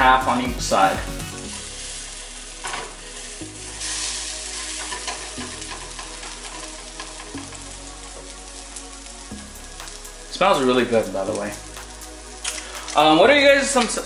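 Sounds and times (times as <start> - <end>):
toast sizzling in a frying pan: 0.2 - 14.0.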